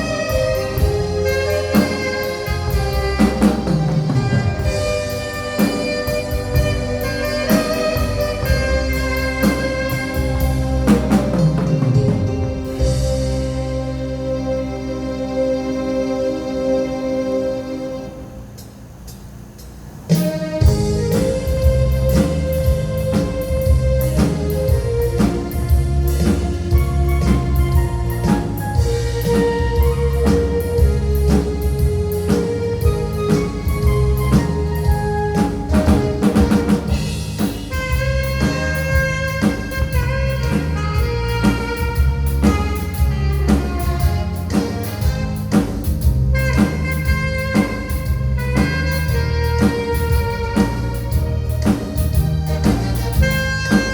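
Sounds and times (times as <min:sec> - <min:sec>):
drum kit: 0:00.0 - 0:14.2, 0:18.4 - 0:53.9
alto saxophone melody: 0:00.0 - 0:18.6, 0:20.1 - 0:53.9
keyboard accompaniment: 0:00.0 - 0:53.9.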